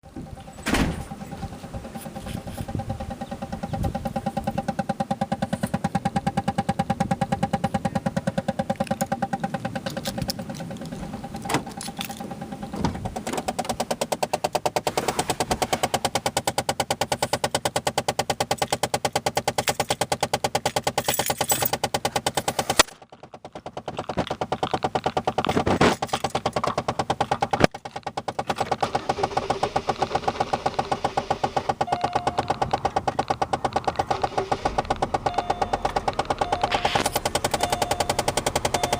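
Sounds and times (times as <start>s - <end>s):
rapid clicking of dashboard actuator: 1.0s - 38.9s.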